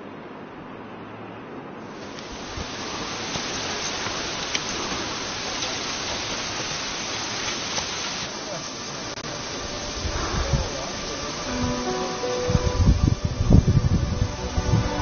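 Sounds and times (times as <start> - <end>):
running water rushing: 1.8 - 15.0.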